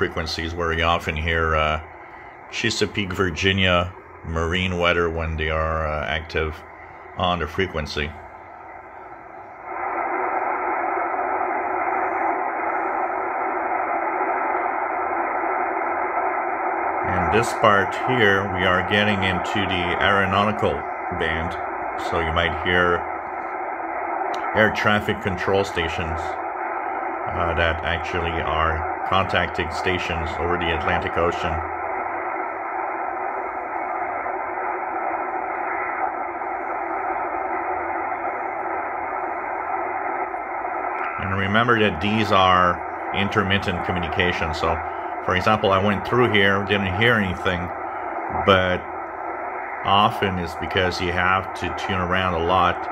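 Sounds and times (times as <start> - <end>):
radio static hiss: 0.0 - 52.9.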